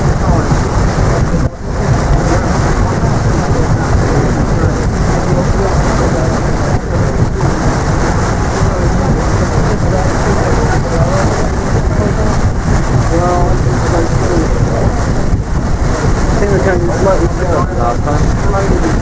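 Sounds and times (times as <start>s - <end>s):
faint voices: 0.0s - 19.0s
wind buffeting microphone: 0.0s - 19.0s.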